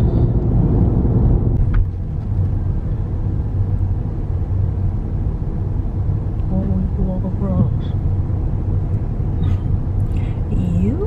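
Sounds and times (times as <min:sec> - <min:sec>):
car driving from inside cabin: 0:00.0 - 0:11.0.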